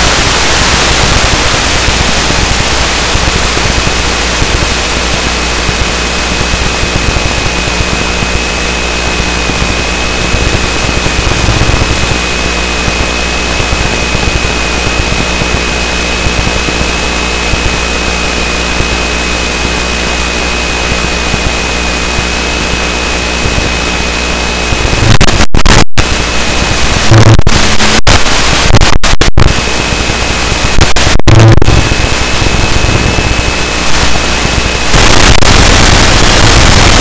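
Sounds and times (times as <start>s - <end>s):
radio static hiss: 0.0s - 37.0s
thin high whine: 0.0s - 37.0s.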